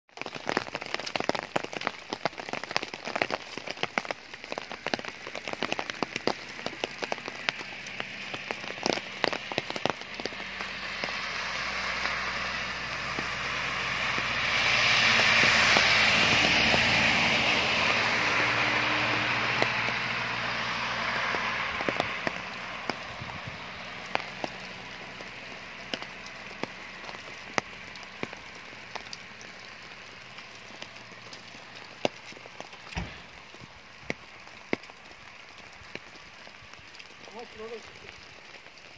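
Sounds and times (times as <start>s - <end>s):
wet snow and sleet pattering: 0.1s - 38.9s
truck driving on slushy road: 0.2s - 38.9s.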